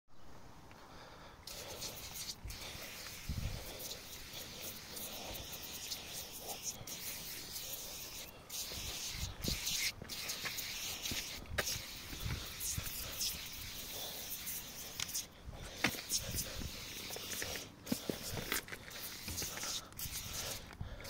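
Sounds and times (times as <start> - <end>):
spray can hissing: 1.4 - 21.0.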